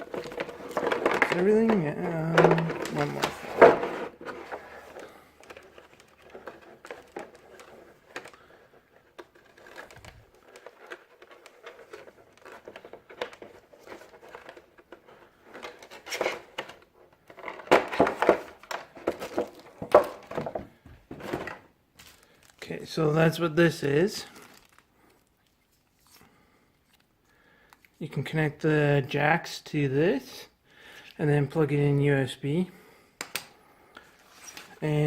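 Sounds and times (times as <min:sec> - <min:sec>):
packaging crinkling and rustling: 0:00.0 - 0:28.0, 0:34.0 - 0:35.0.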